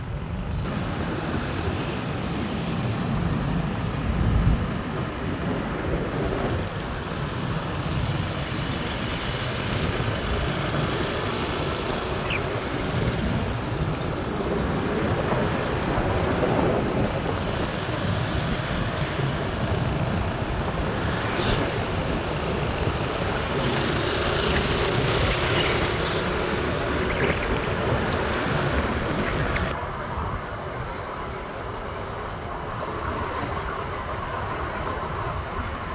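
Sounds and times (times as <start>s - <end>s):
road traffic noise: 0.0s - 35.9s
wind rushing over microphone: 0.0s - 35.9s.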